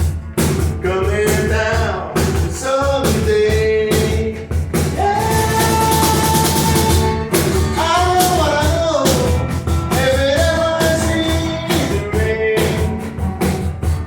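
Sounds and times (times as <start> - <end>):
acoustic guitars: 0.0 - 14.0
cajon beat: 0.0 - 14.0
person singing: 0.8 - 13.1.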